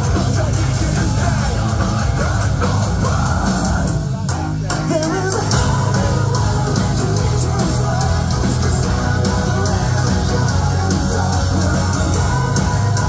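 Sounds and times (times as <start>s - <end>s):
metal band playing live: 0.0s - 13.0s
person singing: 0.0s - 13.0s.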